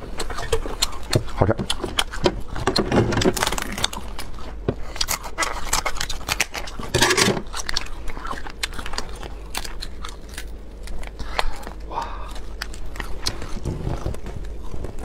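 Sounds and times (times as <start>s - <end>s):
shell cracking and scraping: 0.1s - 15.0s.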